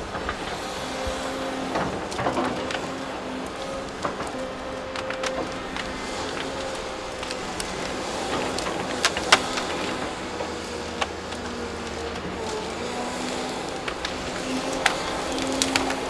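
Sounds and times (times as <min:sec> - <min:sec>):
excavator engine hum: 0:00.0 - 0:16.0.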